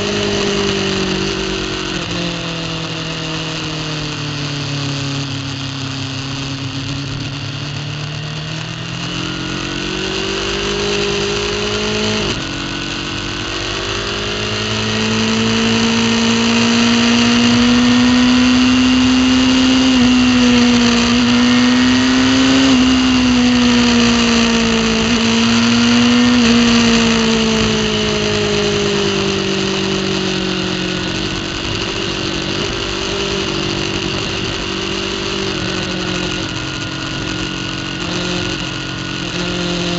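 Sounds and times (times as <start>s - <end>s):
motorcycle engine accelerating: 0.0s - 39.9s
rushing wind noise: 5.0s - 39.9s.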